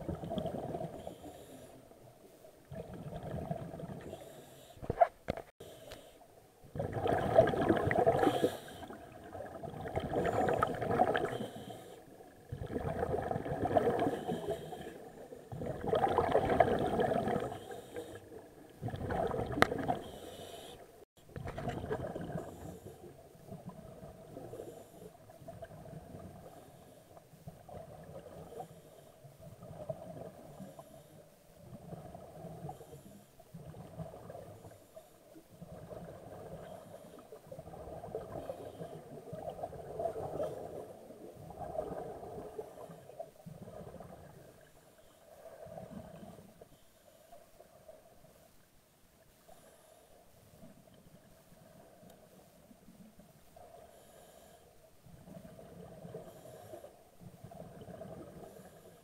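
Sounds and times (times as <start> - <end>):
underwater exhale bubbling: 0.0 - 1.9, 2.6 - 5.0, 6.6 - 46.6, 53.0 - 59.0.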